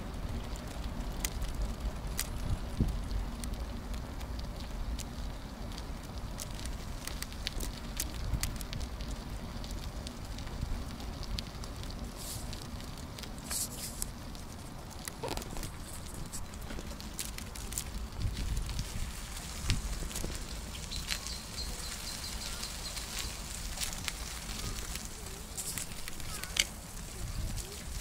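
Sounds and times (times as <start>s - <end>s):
bicycle basket clicking and crackling: 0.0s - 28.0s
bicycle tyres rolling: 0.0s - 28.0s
wind rumble on microphone: 0.0s - 28.0s.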